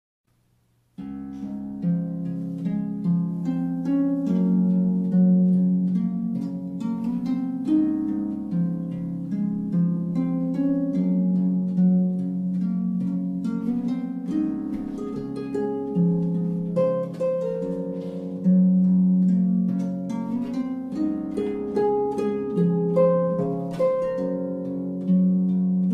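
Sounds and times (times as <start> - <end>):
plucked instrumental melody: 1.0 - 25.9.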